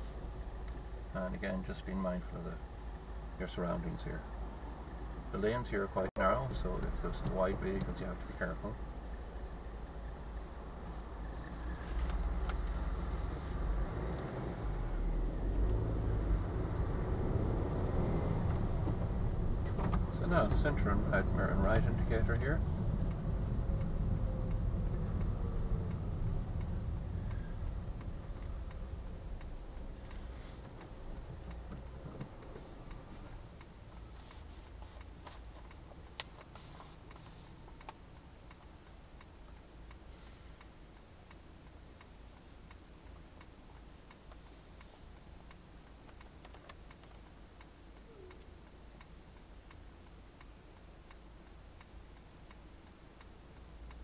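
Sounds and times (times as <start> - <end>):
car running and road noise: 0.0 - 54.0
turn indicator ticking: 0.1 - 54.0.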